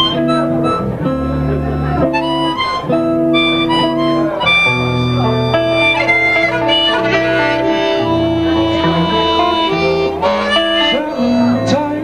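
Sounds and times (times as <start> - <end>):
harmonica playing held notes: 0.0 - 11.9
acoustic bass: 0.0 - 12.0
guitar: 0.0 - 12.0.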